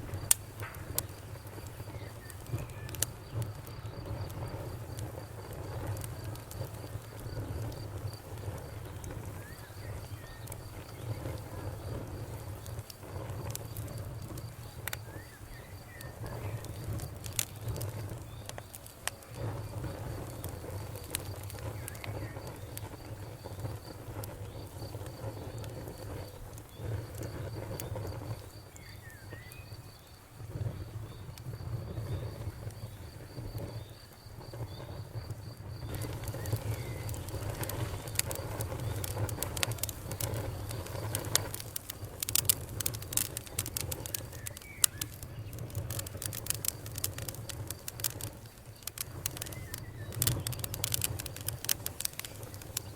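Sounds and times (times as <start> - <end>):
fire crackles and pops: 0.0 - 52.9
fire rumbling: 0.0 - 52.9.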